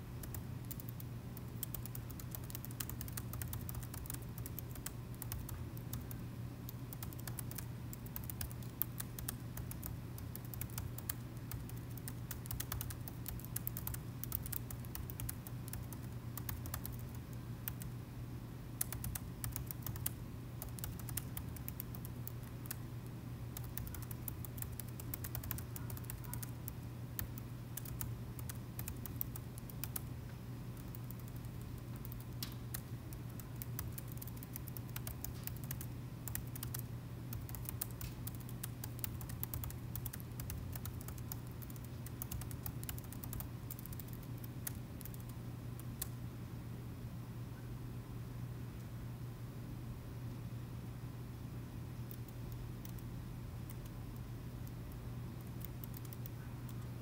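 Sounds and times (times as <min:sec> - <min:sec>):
laptop keyboard typing: 0:00.0 - 0:17.9, 0:18.8 - 0:22.8, 0:23.5 - 0:30.1, 0:30.8 - 0:46.2, 0:52.1 - 0:53.0, 0:53.6 - 0:57.0
low background hum: 0:00.0 - 0:57.0.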